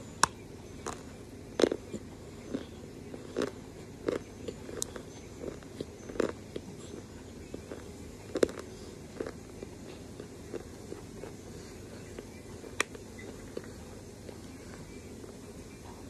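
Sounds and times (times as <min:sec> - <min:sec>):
chalk crunching while chewed: 0:00.2 - 0:15.4.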